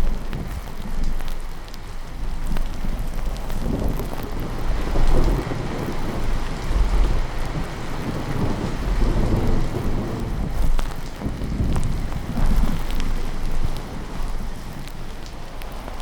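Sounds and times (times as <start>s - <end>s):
low rolling thunder: 0.0s - 16.0s
steady rain: 0.0s - 16.0s.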